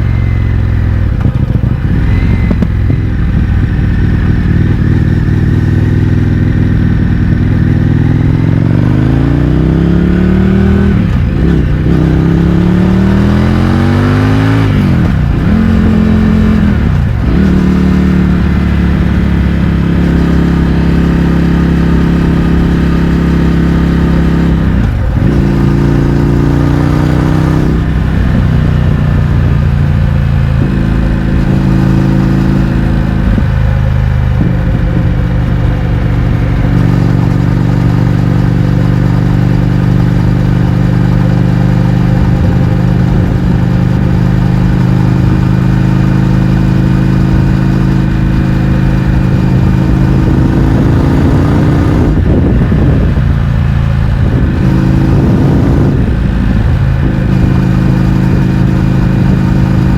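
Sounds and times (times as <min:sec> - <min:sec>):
motorcycle engine running loud: 0:00.0 - 0:59.9.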